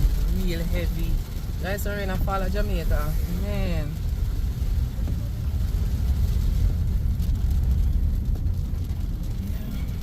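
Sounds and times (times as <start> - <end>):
car driving low rumble: 0.0 - 10.0
heavy rain: 0.0 - 10.0.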